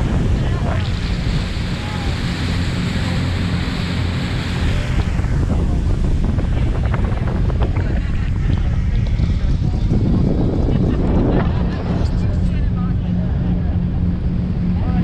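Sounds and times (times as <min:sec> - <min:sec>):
boat engine humming: 0:00.0 - 0:15.0
water rushing past hull: 0:00.0 - 0:15.0
wind buffeting microphone: 0:00.0 - 0:15.0.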